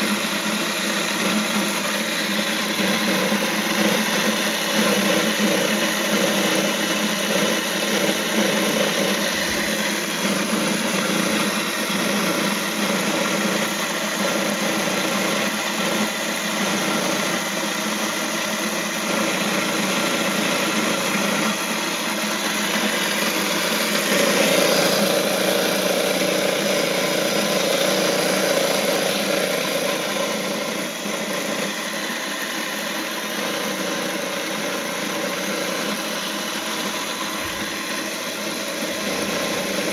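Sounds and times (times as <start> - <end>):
electric grain mill grinding: 0.0 - 39.9.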